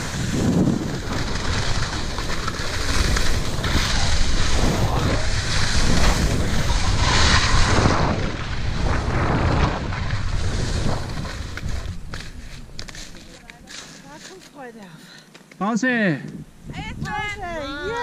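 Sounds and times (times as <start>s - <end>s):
wind buffeting microphone: 0.0s - 13.7s, 16.2s - 18.0s
skis hissing through snow: 0.0s - 14.7s.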